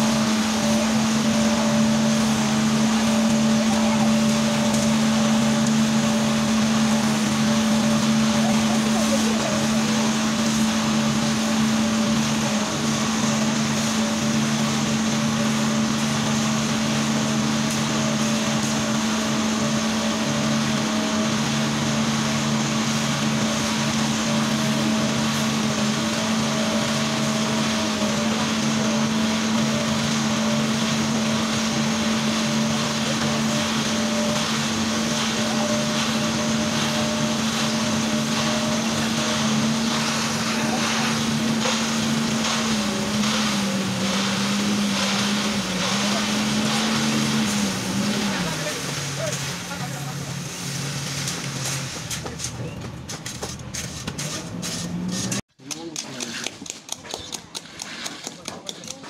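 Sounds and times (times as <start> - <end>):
concrete mixer engine drone: 0.0 - 59.0.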